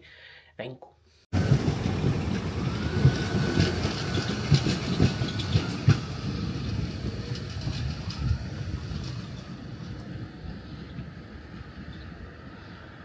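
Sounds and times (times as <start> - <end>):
vehicle rumble: 1.4 - 13.0.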